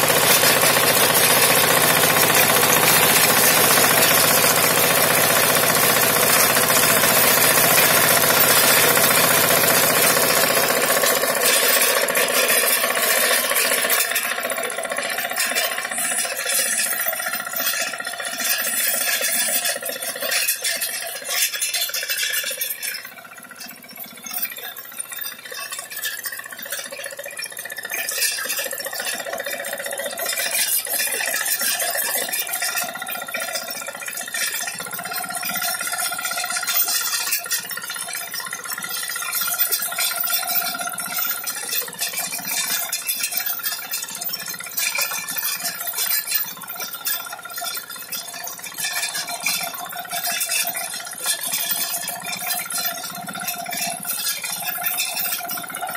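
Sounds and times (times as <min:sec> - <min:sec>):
cutter chopping with rattling clatter: 0:00.0 - 0:55.9
power tiller running: 0:00.0 - 0:55.9.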